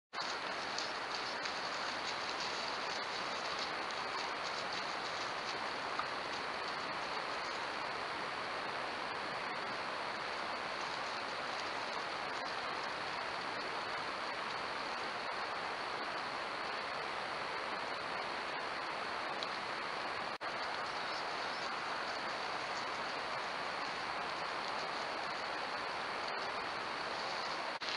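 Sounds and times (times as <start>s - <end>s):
microphone hiss: 0.2s - 27.9s.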